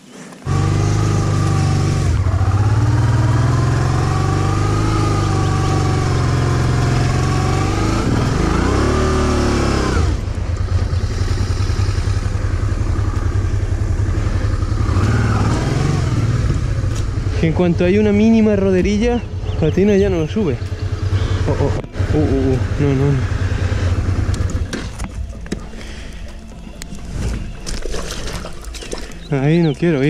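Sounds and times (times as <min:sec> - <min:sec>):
motorcycle engine running: 0:00.4 - 0:30.0.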